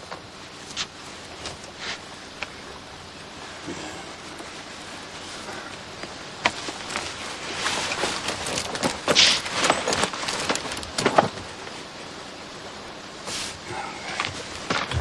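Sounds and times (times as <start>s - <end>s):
rustling and crackling in undergrowth: 0.0s - 15.0s.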